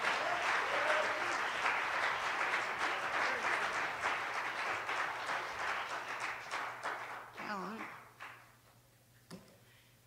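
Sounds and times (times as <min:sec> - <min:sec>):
congregation applauding: 0:00.0 - 0:08.6.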